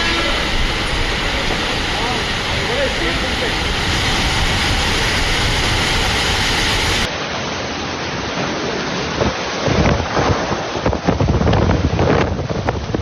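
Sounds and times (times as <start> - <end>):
wind buffeting microphone: 0.0 - 7.1, 9.0 - 13.0
heavy rain: 0.0 - 13.0.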